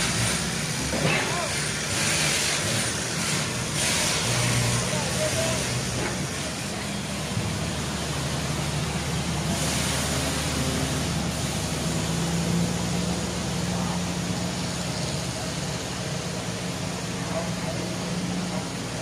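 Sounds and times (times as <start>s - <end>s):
car and motorbike engines: 0.0s - 19.0s
road noise hiss: 0.0s - 19.0s.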